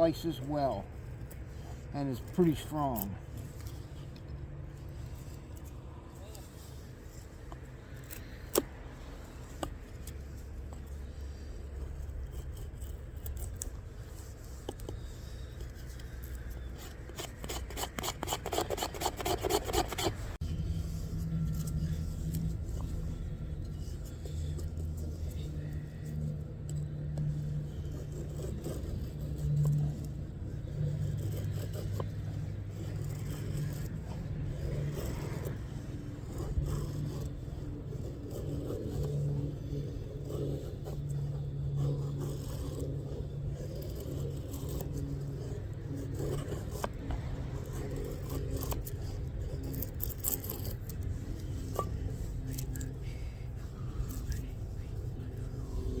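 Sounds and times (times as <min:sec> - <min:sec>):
knife scraping and cutting: 0:00.0 - 0:56.0
steady low hum: 0:00.0 - 0:56.0.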